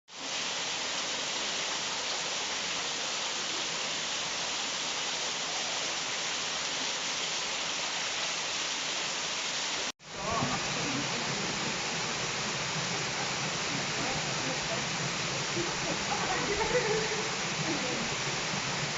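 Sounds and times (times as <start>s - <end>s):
waterfall rushing: 0.1s - 18.9s.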